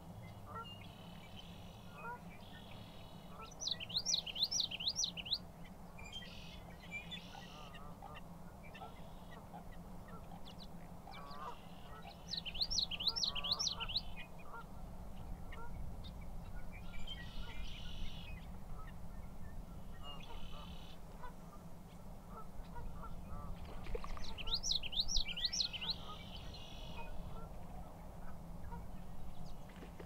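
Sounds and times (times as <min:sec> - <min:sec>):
bird singing rolling song: 0:00.0 - 0:07.9, 0:08.6 - 0:21.3, 0:22.6 - 0:30.0
birds calling in background: 0:00.2 - 0:30.0.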